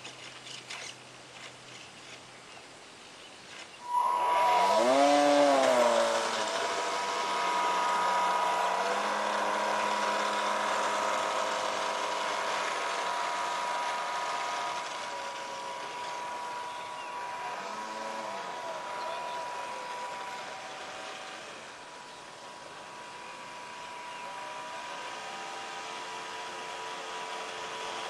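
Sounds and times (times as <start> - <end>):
model plane electric motor whining: 3.8 - 28.0.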